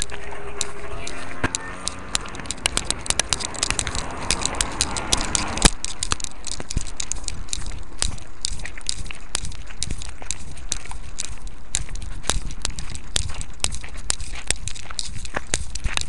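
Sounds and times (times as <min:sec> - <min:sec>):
camera clicking and crackling: 0:00.0 - 0:16.0
camera knocking and rubbing: 0:00.0 - 0:16.0.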